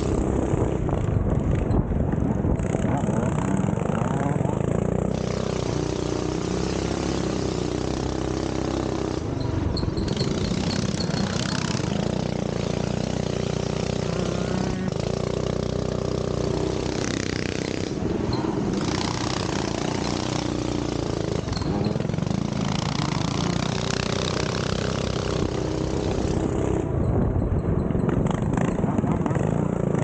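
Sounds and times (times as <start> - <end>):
minibike engine revving: 0.0 - 30.0
steady rushing noise: 0.0 - 30.0.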